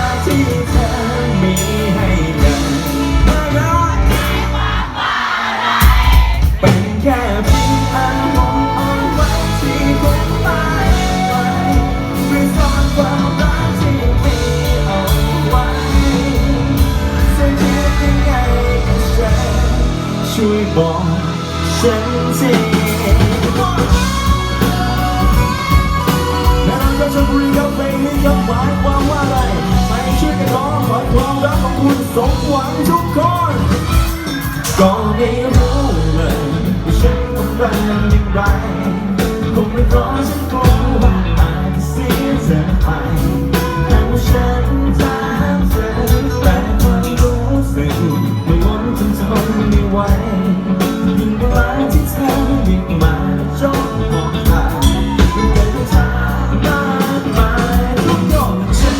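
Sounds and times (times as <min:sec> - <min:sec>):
person singing: 0:00.0 - 0:58.9
rock band playing live: 0:00.0 - 0:58.9.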